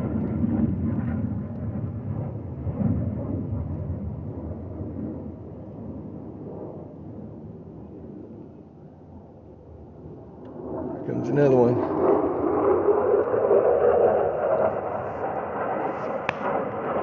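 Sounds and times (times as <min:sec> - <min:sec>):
jet engines rumbling overhead: 0:00.0 - 0:17.0.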